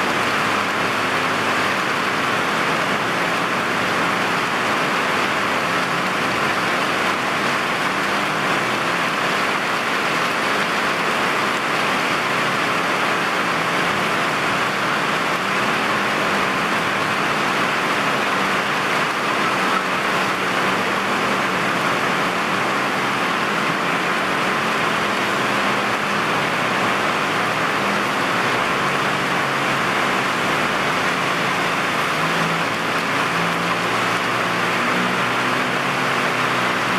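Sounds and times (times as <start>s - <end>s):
heavy rain pouring: 0.0s - 36.9s
road traffic hum: 0.0s - 36.9s.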